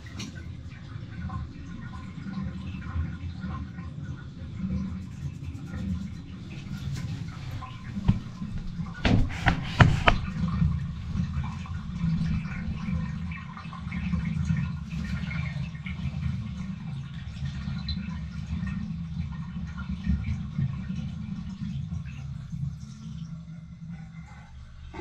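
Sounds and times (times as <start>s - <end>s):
water draining down bathtub drain: 0.0s - 25.0s.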